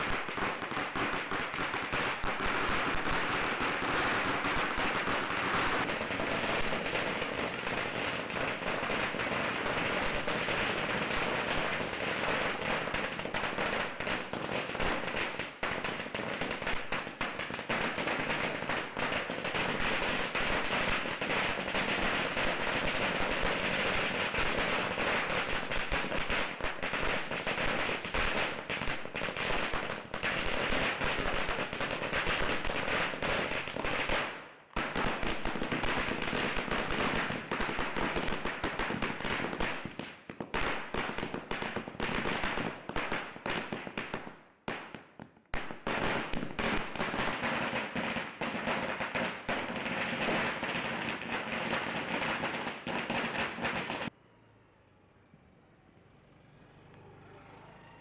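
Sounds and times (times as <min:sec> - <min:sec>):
firecrackers going off: 0:00.0 - 0:54.2.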